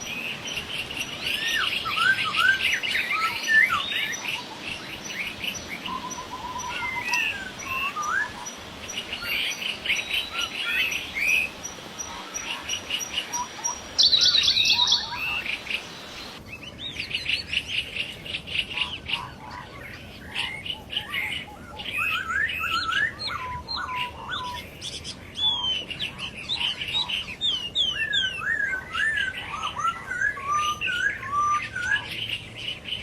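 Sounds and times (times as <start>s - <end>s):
laughingthrushes singing and calling: 0.0s - 33.0s.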